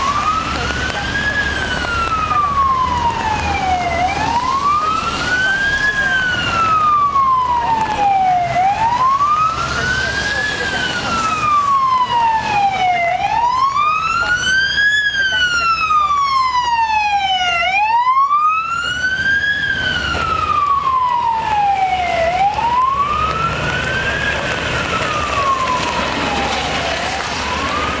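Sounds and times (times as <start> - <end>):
electronic siren wailing: 0.0 - 28.0
traffic road noise: 0.0 - 28.0.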